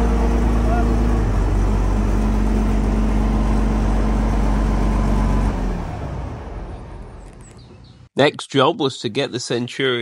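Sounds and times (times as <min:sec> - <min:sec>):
large vehicle engine running: 0:00.0 - 0:08.1.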